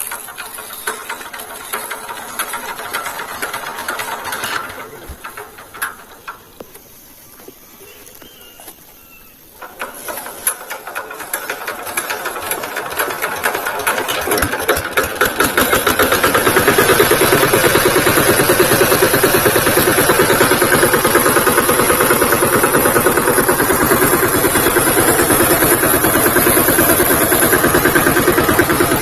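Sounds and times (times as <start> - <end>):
tractor diesel engine running: 0.0 - 7.5, 9.4 - 29.0.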